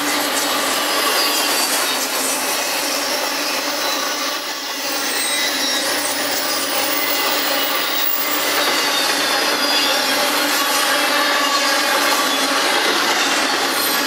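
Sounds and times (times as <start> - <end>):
high-pitched wheel squeals: 0.0 - 14.0
steel wheels grinding on rail: 0.0 - 14.0.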